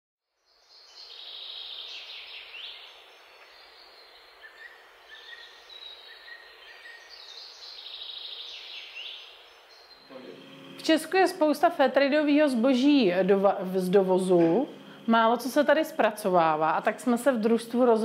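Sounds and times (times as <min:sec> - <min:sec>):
background hiss: 0:00.4 - 0:18.0
songbird singing: 0:00.4 - 0:18.0.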